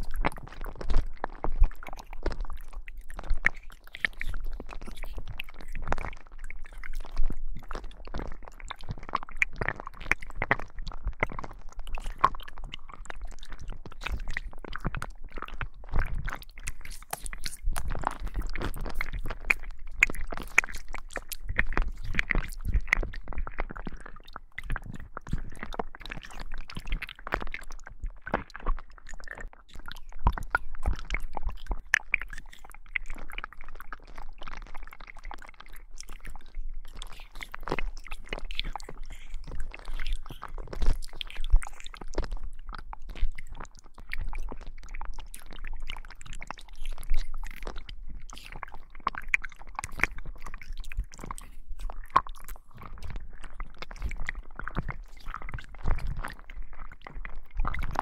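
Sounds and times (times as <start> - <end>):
slime squelching and popping: 0.0 - 58.0.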